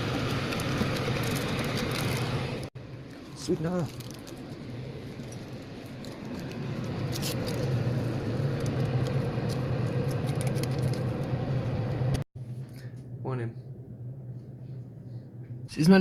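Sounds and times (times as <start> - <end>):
vehicle engine hum: 0.0 - 15.8.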